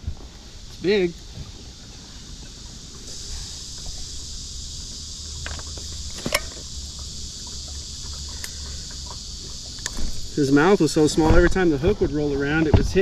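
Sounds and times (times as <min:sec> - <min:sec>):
high-pitched insect buzz: 0:00.1 - 0:13.0.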